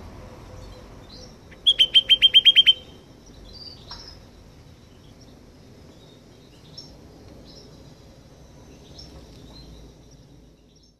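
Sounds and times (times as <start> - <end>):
low outdoor background noise: 0.0 - 10.9
small birds chirping: 0.0 - 10.9.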